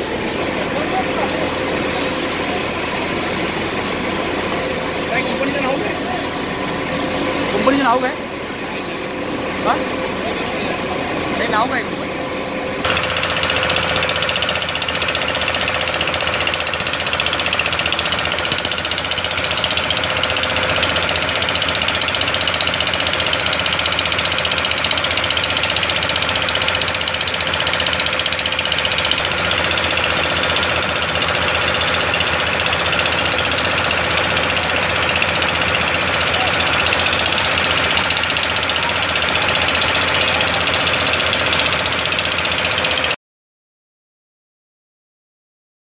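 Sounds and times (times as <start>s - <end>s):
engine running with clatter: 0.0s - 43.2s.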